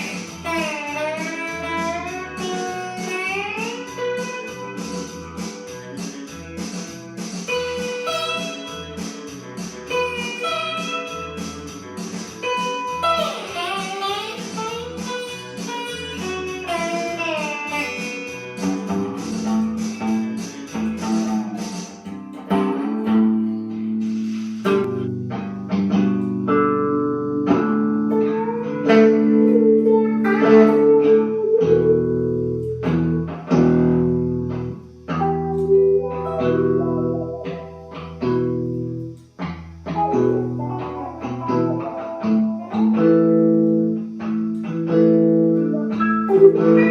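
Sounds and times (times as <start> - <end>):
bass line: 0.0 - 44.8
blues guitar: 0.0 - 46.9.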